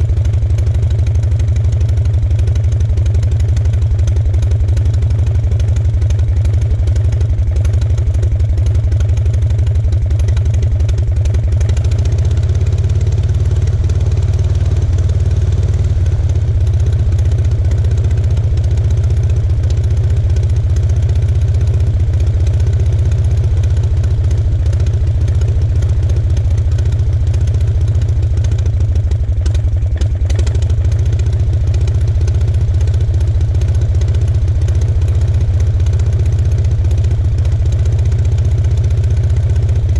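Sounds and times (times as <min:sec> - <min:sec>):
light aircraft engine running: 0:00.0 - 0:39.9.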